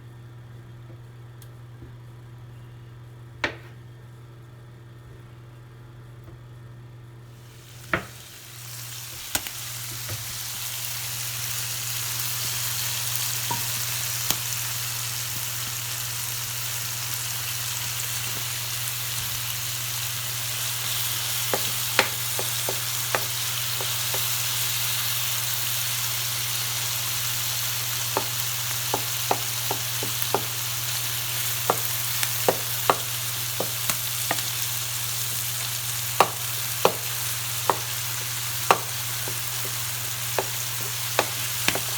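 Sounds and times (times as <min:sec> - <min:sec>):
food sizzling in a pan: 0:07.3 - 0:41.9.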